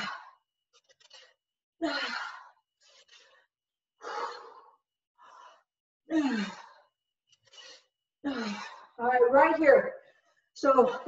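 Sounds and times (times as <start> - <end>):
woman breathing hard: 0.0 - 9.0.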